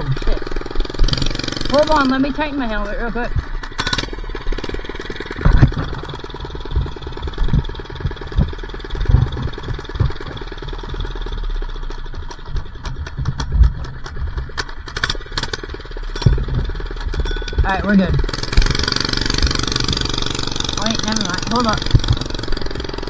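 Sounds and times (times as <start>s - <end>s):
low thumps and knocks: 0.0s - 23.0s
small engine idling: 0.0s - 23.0s.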